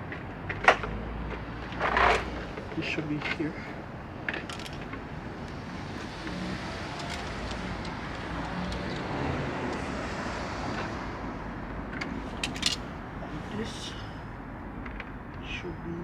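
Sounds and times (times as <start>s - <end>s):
passing car road noise: 0.0s - 15.5s.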